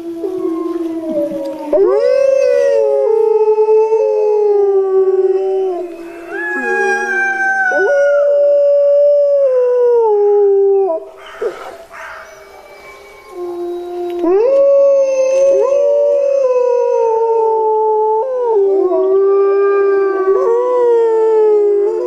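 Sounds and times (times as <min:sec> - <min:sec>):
wolves howling: 0:00.0 - 0:22.0.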